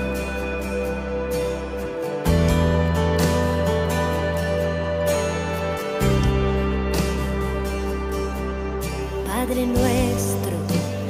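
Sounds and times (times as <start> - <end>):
soft slow instrumental music: 0.0 - 11.0.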